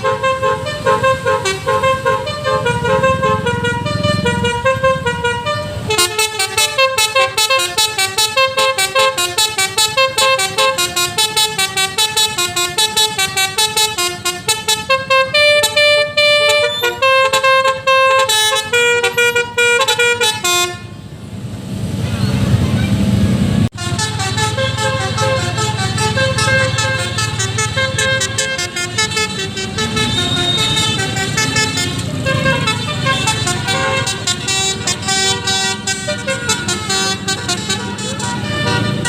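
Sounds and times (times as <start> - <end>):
multi-tone horn melody: 0.0 - 21.0, 23.7 - 39.0.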